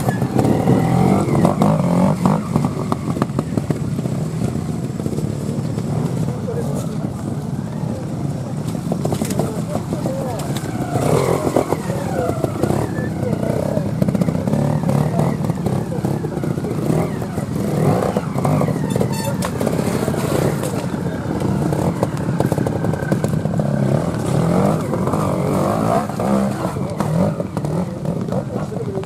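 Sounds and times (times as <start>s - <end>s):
motorcycle engine throttle bursts: 0.0s - 29.0s.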